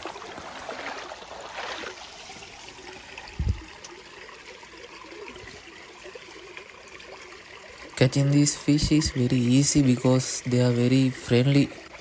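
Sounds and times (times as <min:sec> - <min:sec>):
stream water trickling: 0:00.0 - 0:12.0.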